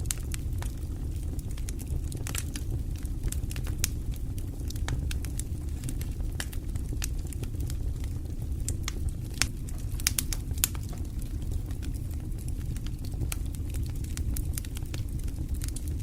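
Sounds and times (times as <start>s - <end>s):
fire crackling and popping: 0.0s - 16.0s
wood fire burning: 0.0s - 16.0s.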